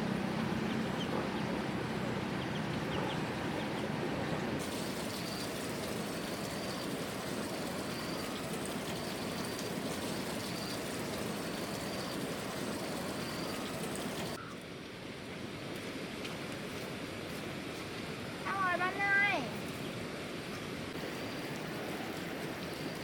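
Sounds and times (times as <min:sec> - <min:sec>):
steady water noise: 0:00.0 - 0:23.0.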